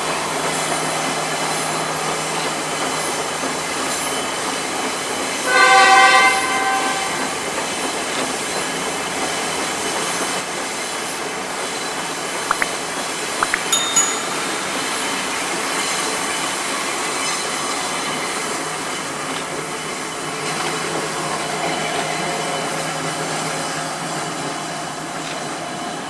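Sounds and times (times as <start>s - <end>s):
train wheels rumbling on rails: 0.0s - 12.4s, 14.3s - 26.0s.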